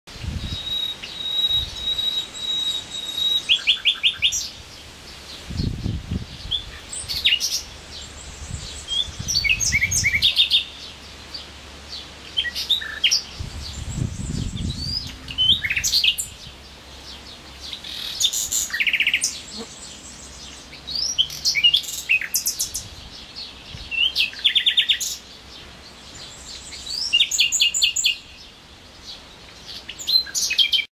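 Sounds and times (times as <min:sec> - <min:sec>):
nightingale singing: 0:00.1 - 0:30.9.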